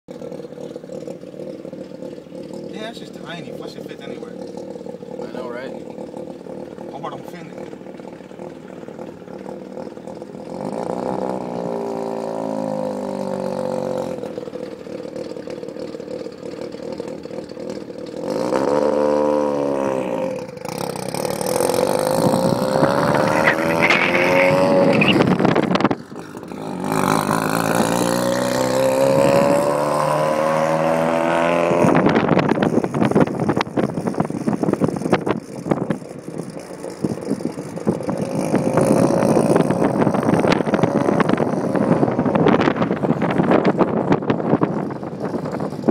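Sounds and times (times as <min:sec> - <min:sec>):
rotary car engine accelerating: 0:00.1 - 0:45.9.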